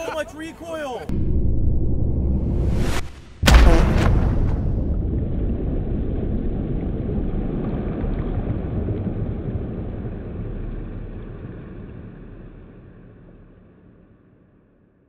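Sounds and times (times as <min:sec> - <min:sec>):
deep low rumble: 0:01.1 - 0:14.2.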